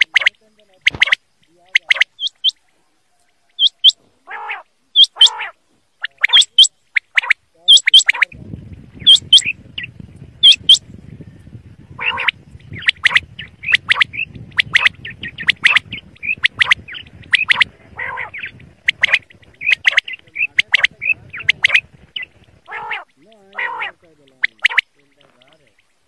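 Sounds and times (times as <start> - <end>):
quail chirping: 0.0 - 26.0.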